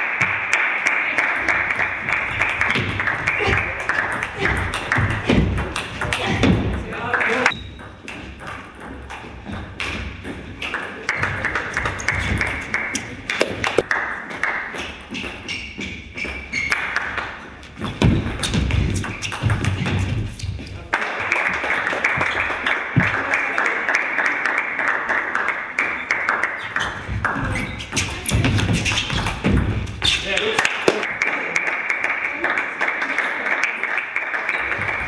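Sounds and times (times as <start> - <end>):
spectators clapping: 0.0 - 10.0, 10.6 - 15.0, 16.6 - 17.7, 20.7 - 35.0.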